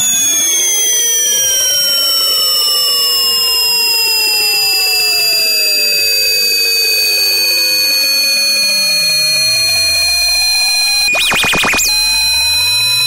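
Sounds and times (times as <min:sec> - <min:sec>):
high-pitched electronic whines: 0:00.0 - 0:13.0
low tone sliding down: 0:00.0 - 0:13.0.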